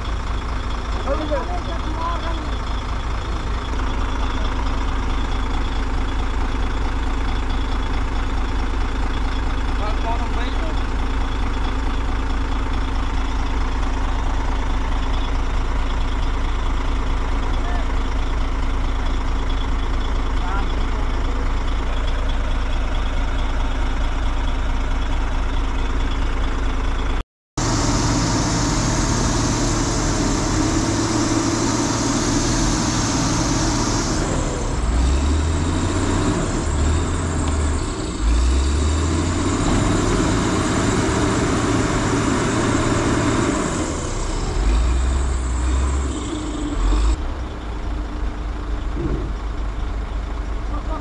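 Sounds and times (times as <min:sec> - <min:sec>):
heavy diesel engines rumbling: 0:00.0 - 0:51.0.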